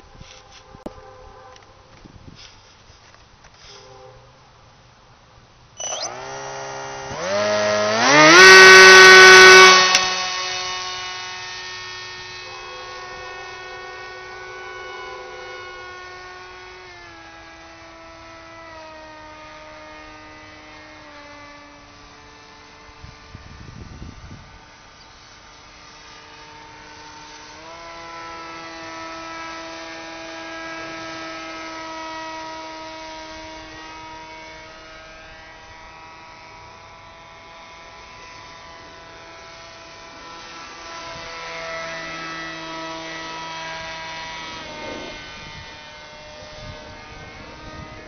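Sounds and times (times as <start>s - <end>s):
model airplane motor whining: 5.8s - 48.0s.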